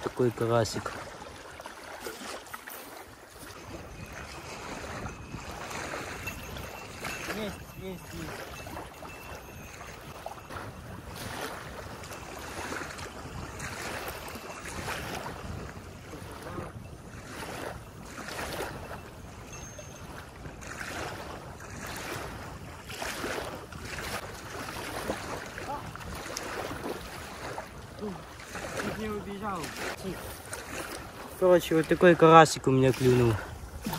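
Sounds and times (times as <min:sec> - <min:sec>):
small waves washing on shore: 0:00.0 - 0:33.9
wind gusting on microphone: 0:03.0 - 0:33.9.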